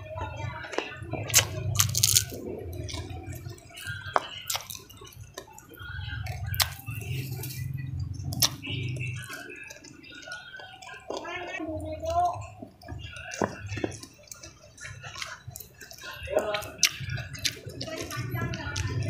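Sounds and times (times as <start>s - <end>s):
wet chewing: 0.5s - 19.0s.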